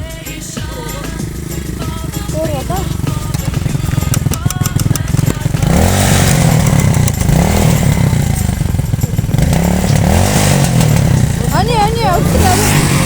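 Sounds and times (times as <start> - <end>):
small motorcycle engine revving: 0.0 - 13.0.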